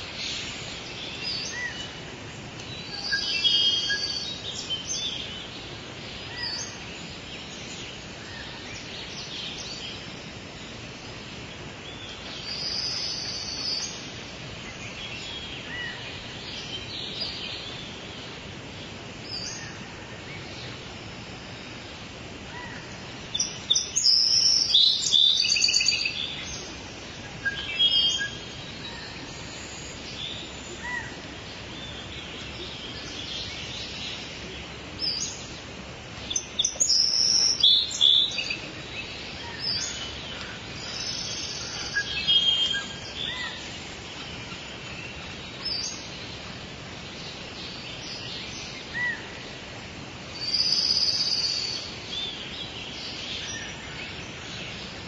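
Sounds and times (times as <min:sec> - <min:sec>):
birds calling and chirping: 0:00.0 - 0:55.0
steady background hiss: 0:00.0 - 0:55.0.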